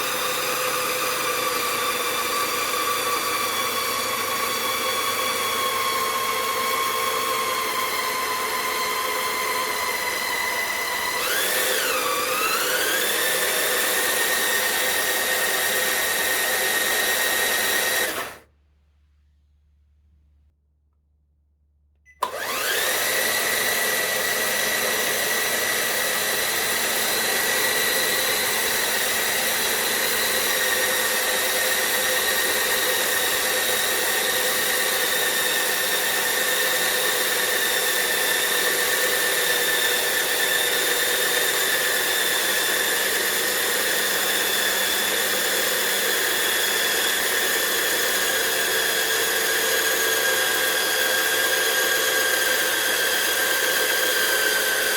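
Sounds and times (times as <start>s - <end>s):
small electric motor whining: 0.0s - 18.4s, 22.2s - 54.9s.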